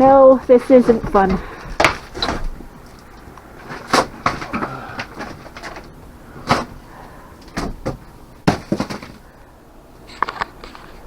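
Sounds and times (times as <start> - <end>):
boards knocking and clattering: 0.0 - 9.4.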